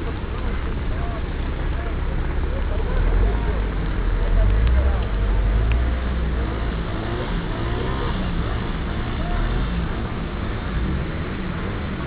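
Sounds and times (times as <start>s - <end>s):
faint voices: 0.0s - 10.9s
heavy rain and floodwater: 0.0s - 12.0s.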